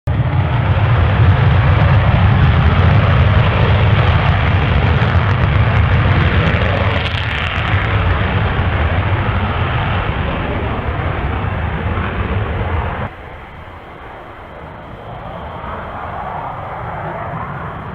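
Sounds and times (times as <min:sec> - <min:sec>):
jet engines roaring: 0:00.1 - 0:17.9.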